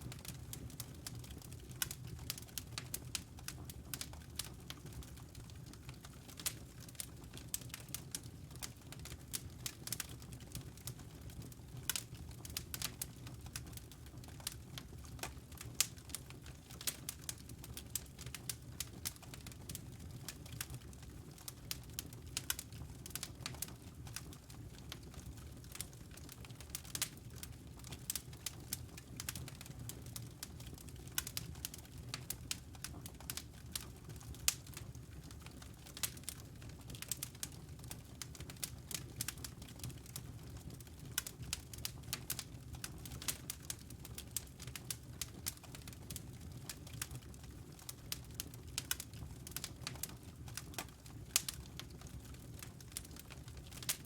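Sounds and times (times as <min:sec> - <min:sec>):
crackling wood fire: 0:00.0 - 0:54.0.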